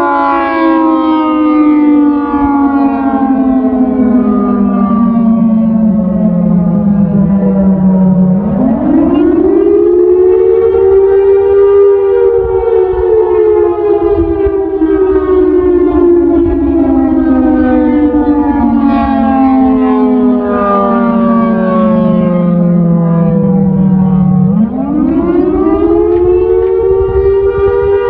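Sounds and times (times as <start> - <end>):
siren wailing: 0.0 - 28.0.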